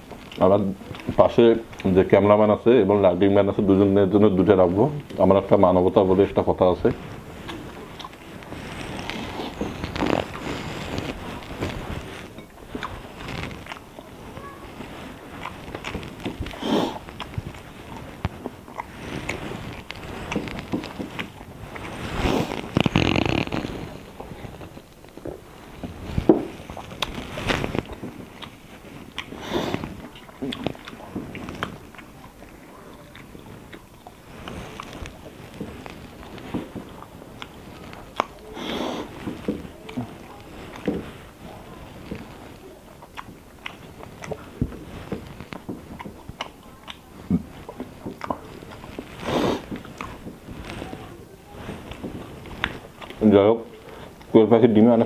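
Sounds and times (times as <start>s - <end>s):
person chewing food: 0.0s - 54.4s
fingers mixing rice on plate: 0.0s - 55.0s.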